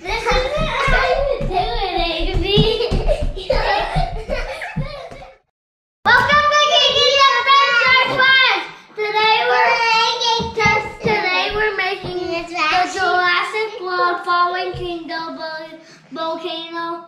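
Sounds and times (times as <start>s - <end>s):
child singing: 0.0s - 4.2s, 6.1s - 17.0s.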